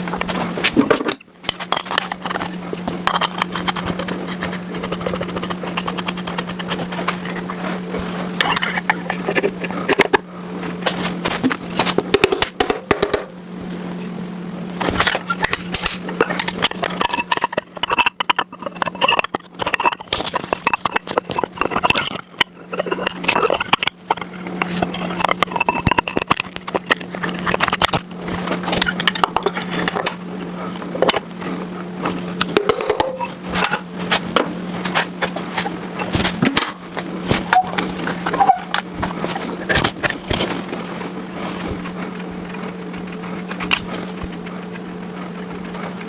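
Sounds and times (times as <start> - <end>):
steady low hum: 0.0 - 46.0
metal tools clinking and scraping: 0.1 - 12.0, 14.8 - 44.1.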